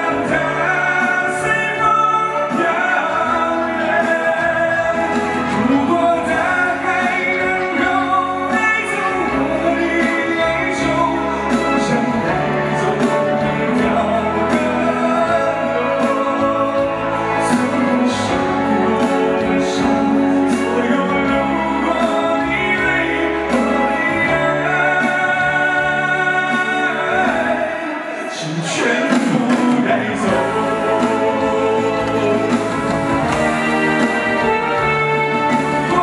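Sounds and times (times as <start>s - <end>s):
man singing into a microphone: 0.0s - 36.0s
musical accompaniment with a beat: 0.0s - 36.0s.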